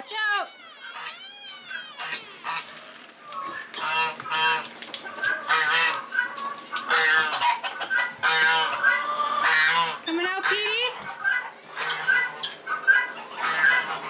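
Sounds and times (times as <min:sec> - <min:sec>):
geese honking: 0:00.8 - 0:14.0.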